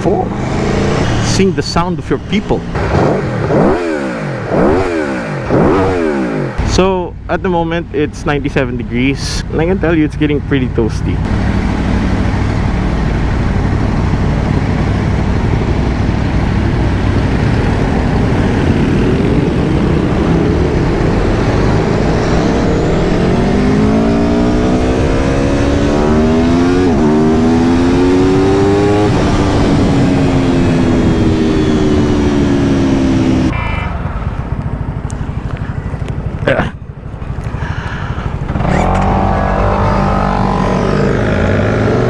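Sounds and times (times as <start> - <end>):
motorcycle engine revving: 0.0 - 7.0, 11.0 - 42.0
wind and road noise: 0.0 - 42.0.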